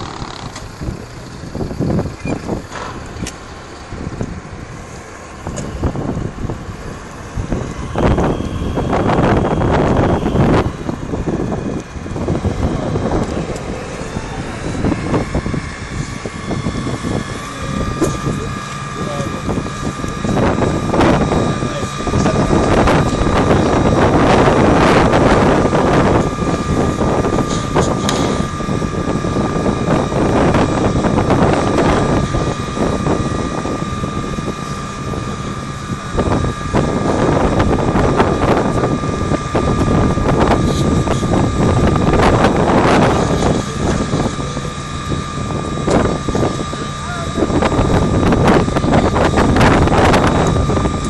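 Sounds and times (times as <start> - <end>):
fire engine pump running: 0.0 - 51.0
steady whine: 0.0 - 51.0.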